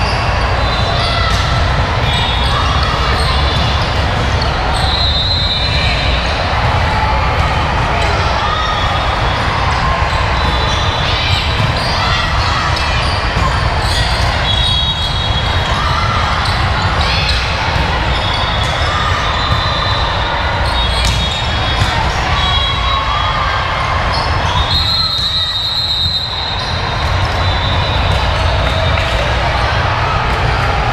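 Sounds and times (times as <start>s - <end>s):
hubbub of players and spectators: 0.0s - 30.9s.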